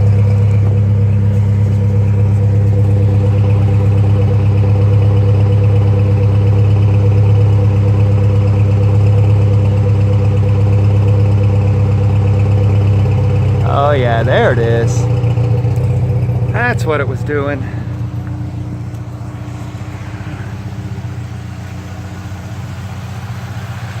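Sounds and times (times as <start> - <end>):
car engine idling roughly: 0.0 - 24.0.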